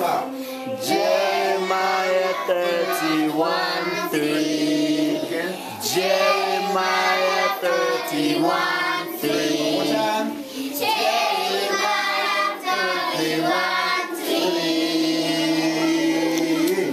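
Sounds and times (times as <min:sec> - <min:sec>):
children singing together: 0:00.0 - 0:16.9.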